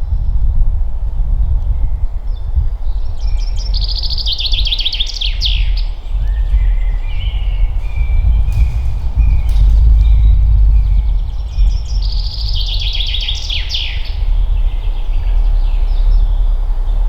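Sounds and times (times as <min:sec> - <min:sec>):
low wind rumble: 0:00.0 - 0:17.0
songbird singing: 0:01.7 - 0:17.0.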